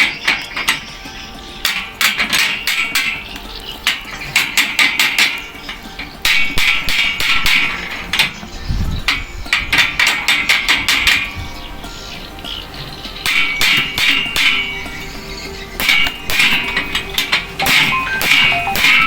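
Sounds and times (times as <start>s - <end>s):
hammer blows ringing: 0.0s - 19.0s.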